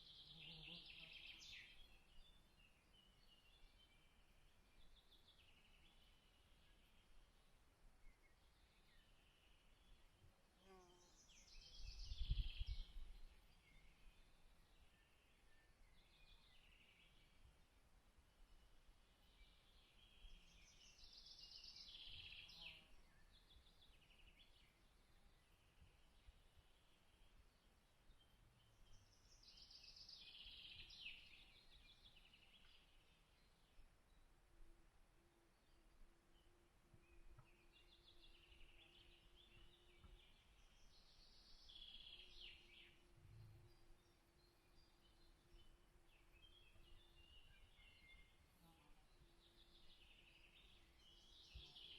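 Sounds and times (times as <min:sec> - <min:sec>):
songbird chirping and trilling: 0:00.0 - 0:17.7, 0:18.6 - 0:34.3, 0:35.4 - 0:51.9
outdoor background noise: 0:00.0 - 0:51.9.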